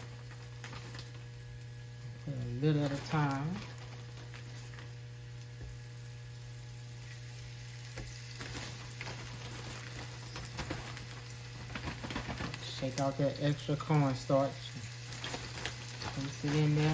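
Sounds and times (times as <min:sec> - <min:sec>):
meat sizzling in hot oil: 0:00.0 - 0:11.8, 0:12.8 - 0:16.9.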